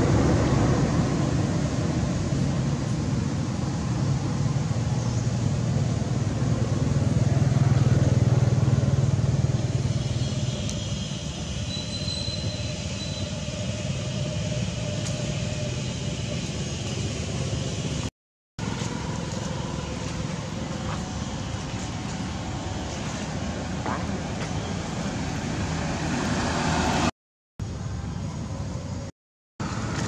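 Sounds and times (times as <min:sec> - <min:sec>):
vehicle engine passing by: 0:00.0 - 0:18.0, 0:18.6 - 0:27.1.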